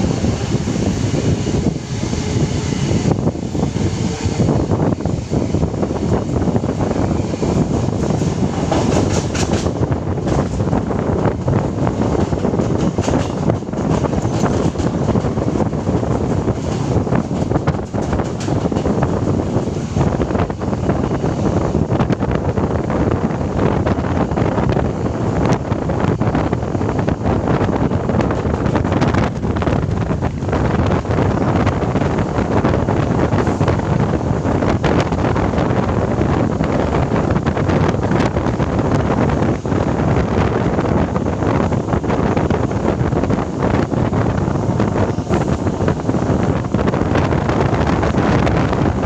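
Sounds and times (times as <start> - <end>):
train clicks and knocks: 0.0 - 49.0
train rumbling: 0.0 - 49.0
wind buffeting microphone: 0.0 - 49.0.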